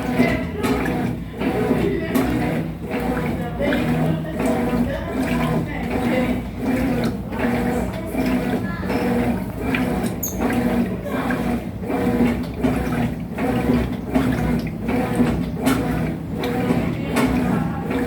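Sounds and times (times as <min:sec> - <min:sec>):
washing machine motor humming: 0:00.0 - 0:18.0
water and clothes churning: 0:00.0 - 0:18.0.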